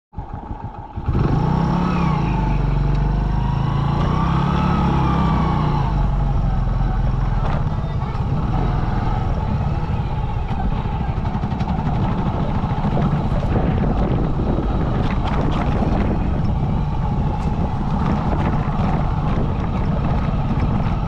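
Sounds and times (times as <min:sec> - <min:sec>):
motorcycle engine running: 0:00.2 - 0:21.0.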